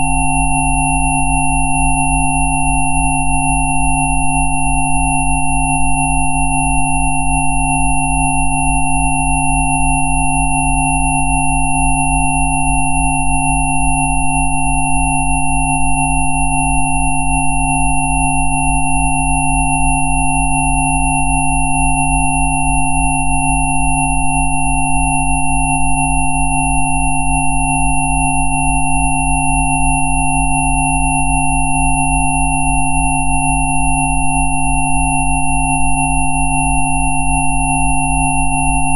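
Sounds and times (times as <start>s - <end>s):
steady electronic sine tones: 0.0s - 38.9s.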